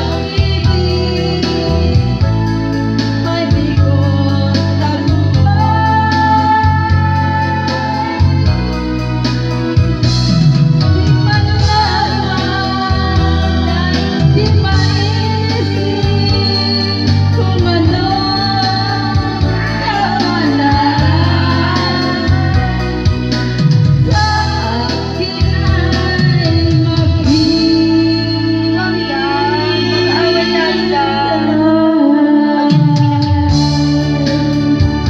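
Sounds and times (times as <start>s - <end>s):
person singing: 0.0s - 8.9s, 10.8s - 35.0s
instrumental backing with bass: 0.0s - 35.0s.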